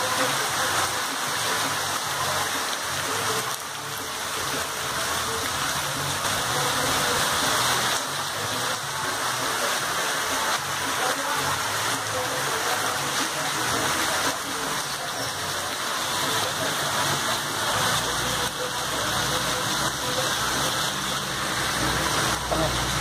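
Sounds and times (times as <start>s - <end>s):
heavy rain on street and roofs: 0.0s - 23.0s.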